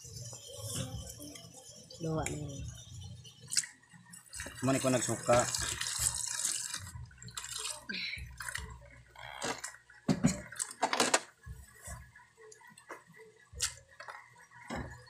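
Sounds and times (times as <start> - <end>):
water sloshing and dripping: 0.0 - 15.0.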